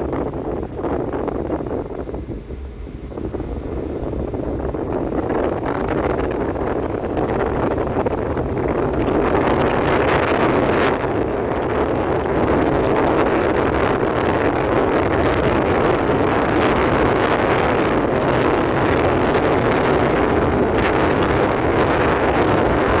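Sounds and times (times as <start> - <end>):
train rumble: 0.0 - 23.0
wind buffeting microphone: 0.0 - 23.0.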